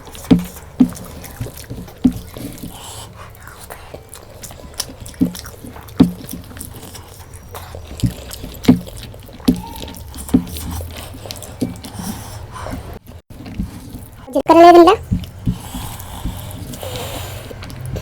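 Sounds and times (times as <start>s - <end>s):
wet chewing and smacking: 0.0s - 18.0s.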